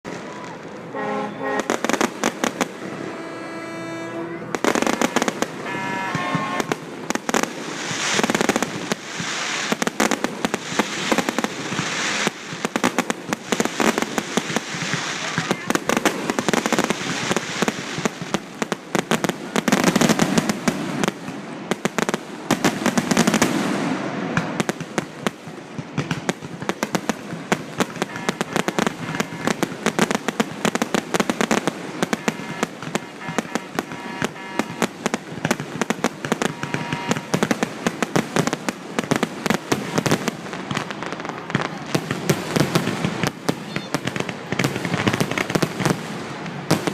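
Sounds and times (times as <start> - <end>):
fireworks bangs and crackles: 0.0 - 3.2, 4.4 - 46.9.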